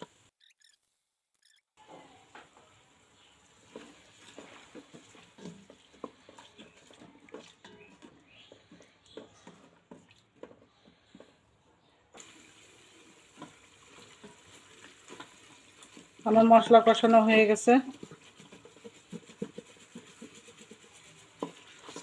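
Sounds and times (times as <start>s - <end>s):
wooden spatula scraping a pot: 1.8s - 22.0s.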